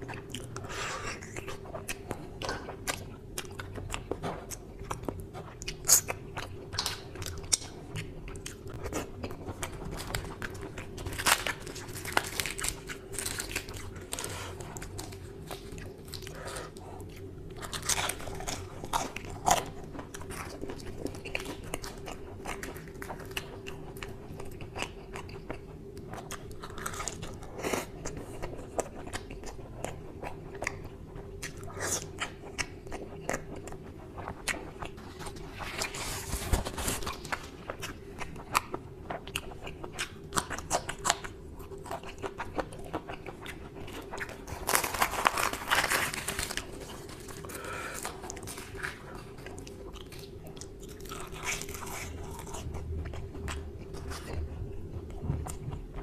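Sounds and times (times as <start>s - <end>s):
man chewing crunchy bread: 0.0s - 56.0s.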